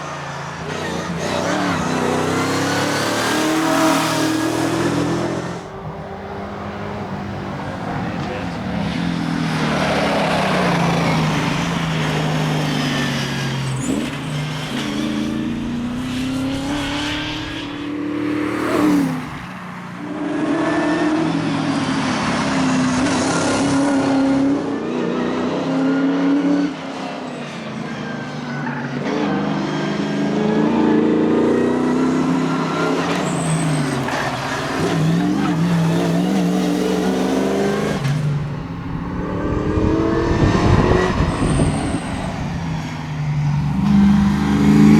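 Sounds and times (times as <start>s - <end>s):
rally car engine at full throttle: 0.0s - 44.9s.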